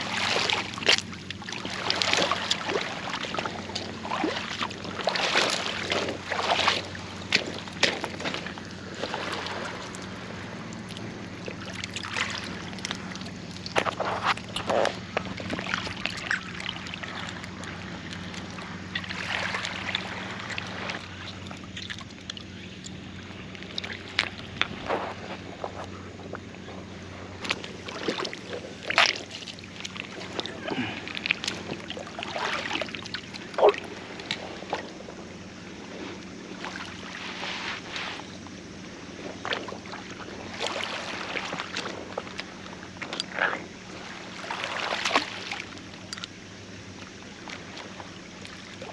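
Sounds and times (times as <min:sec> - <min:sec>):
steady low hum: 0:00.0 - 0:48.9
water washing and lapping: 0:00.0 - 0:48.9.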